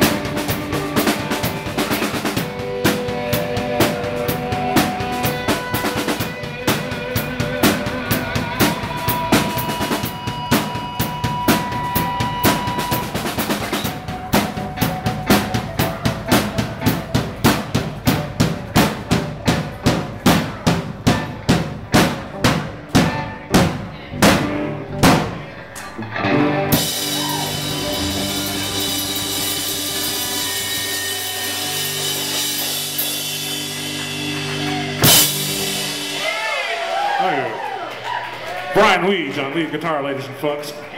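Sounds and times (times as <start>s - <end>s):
drums hitting: 0.0s - 25.9s, 26.7s - 37.4s
live rock band: 0.0s - 38.7s.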